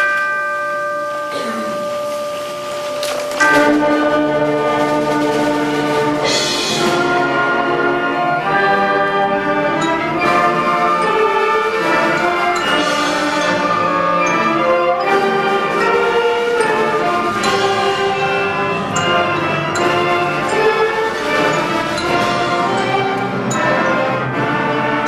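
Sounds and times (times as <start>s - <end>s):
school band playing: 0.0s - 25.0s.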